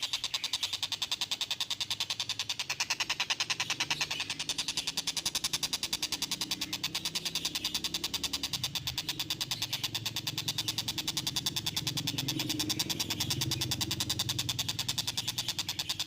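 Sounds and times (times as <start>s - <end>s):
kingfisher rattling call: 0.0s - 16.0s.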